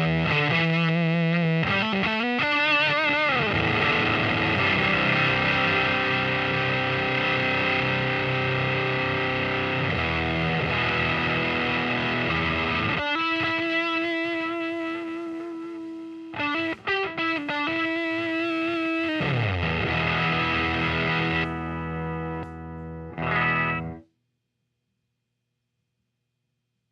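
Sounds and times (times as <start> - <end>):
distorted electric guitar: 0.0 - 24.0.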